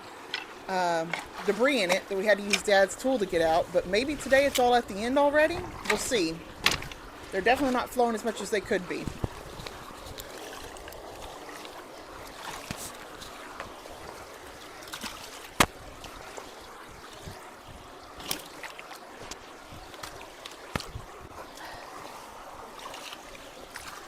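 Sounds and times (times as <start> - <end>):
water running through culvert: 0.0 - 24.0.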